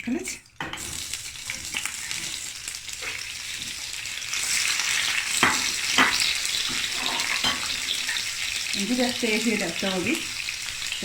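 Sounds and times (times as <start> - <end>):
oil sizzling in a frying pan: 0.1 - 11.0.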